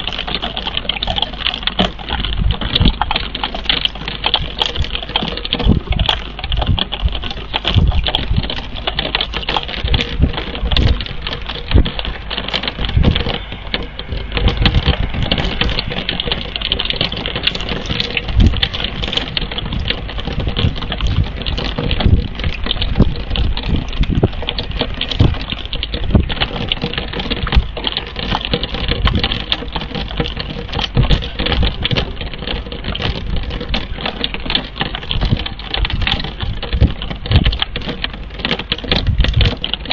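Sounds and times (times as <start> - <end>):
hiss of rain: 0.0 - 39.9
rain drops tapping: 0.0 - 39.9.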